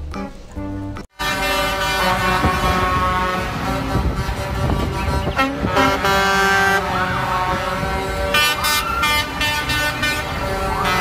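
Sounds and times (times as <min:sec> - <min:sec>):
truck engines rumbling: 0:00.0 - 0:11.0
truck air horns honking: 0:01.1 - 0:11.0.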